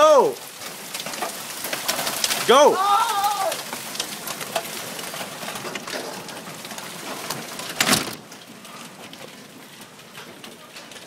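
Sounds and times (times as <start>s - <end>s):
hailstones pelting cars: 0.0s - 11.0s.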